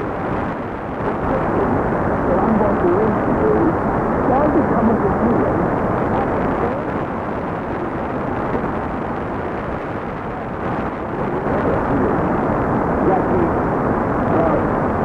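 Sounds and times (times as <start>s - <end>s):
radio static: 0.0s - 15.0s.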